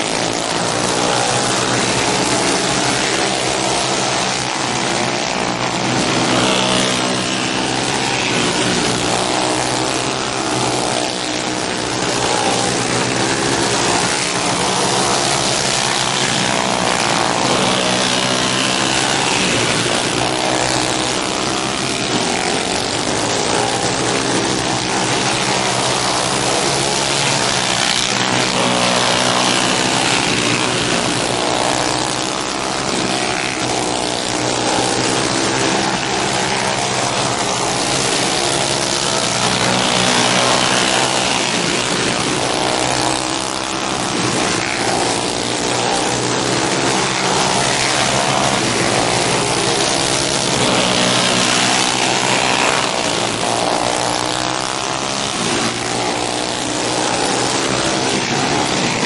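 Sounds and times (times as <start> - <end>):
racing kart engines buzzing: 0.0 - 59.0.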